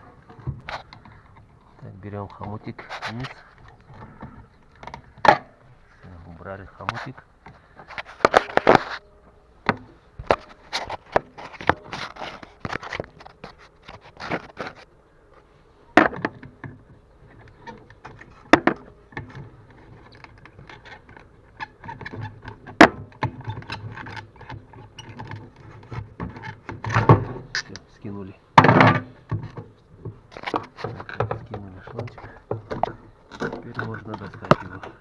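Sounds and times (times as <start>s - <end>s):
clicks knocks and scrapes of hand work: 0.0s - 9.0s, 9.6s - 14.9s, 15.9s - 28.0s, 28.6s - 35.0s.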